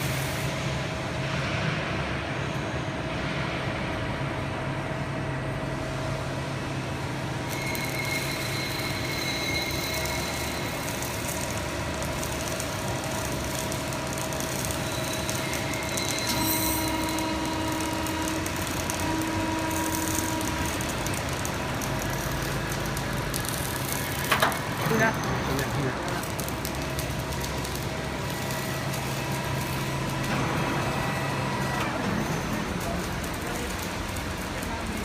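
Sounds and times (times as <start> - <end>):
low machine whine: 0.0 - 35.0.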